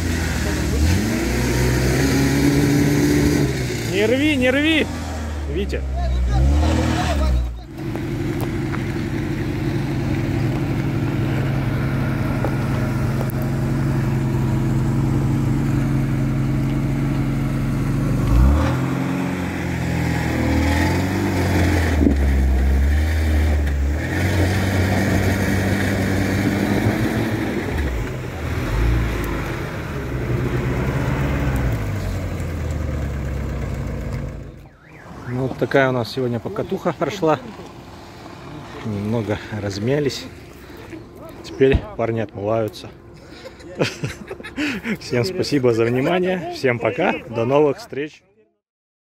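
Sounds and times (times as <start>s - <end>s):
engines revving: 0.0s - 47.6s.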